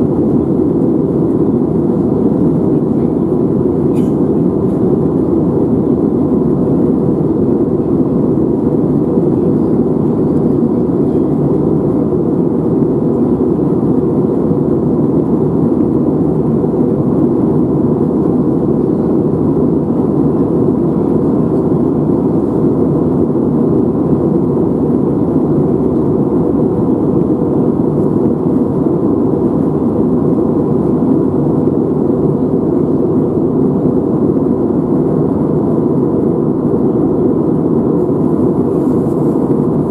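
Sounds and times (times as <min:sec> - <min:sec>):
airliner cabin engine rush: 0:00.0 - 0:39.9
faint steady whine: 0:00.0 - 0:39.9.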